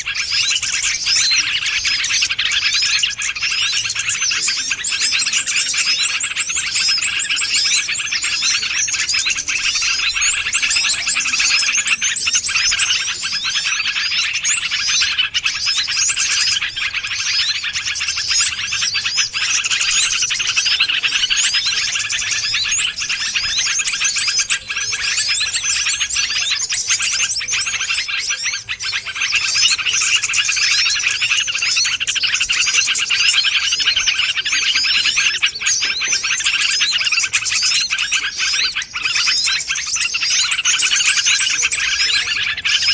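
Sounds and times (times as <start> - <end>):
songbirds chirping and twittering: 0.0 - 42.9.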